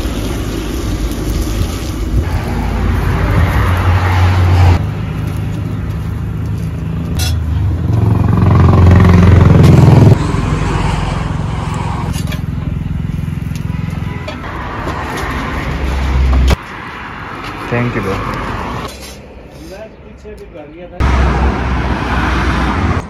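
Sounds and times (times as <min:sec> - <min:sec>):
motor vehicle engine: 0:00.0 - 0:19.4, 0:21.0 - 0:23.0.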